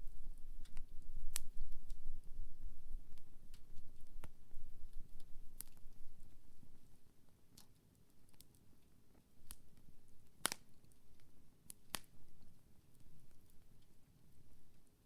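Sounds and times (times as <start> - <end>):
low rumble of fire: 0.0 - 14.9
wood fire crackling: 0.0 - 15.0
burning wood popping: 0.3 - 14.8.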